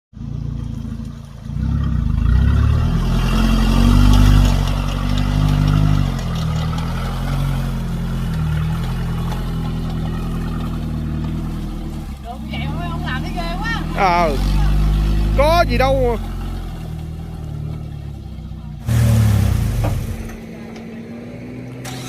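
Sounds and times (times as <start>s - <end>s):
car engine revving: 0.2s - 22.0s.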